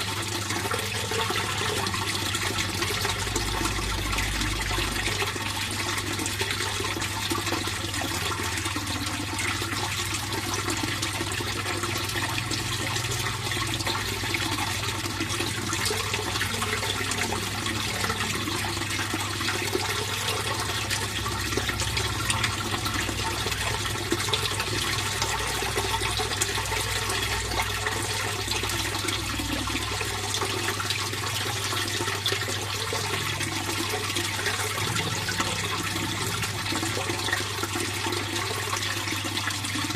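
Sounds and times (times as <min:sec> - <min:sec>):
water flowing and splashing: 0:00.0 - 0:39.9.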